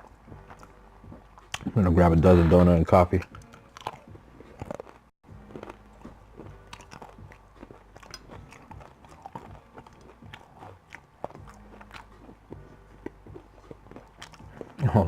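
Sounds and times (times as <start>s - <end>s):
person chewing food: 0.0s - 1.8s, 3.2s - 15.0s.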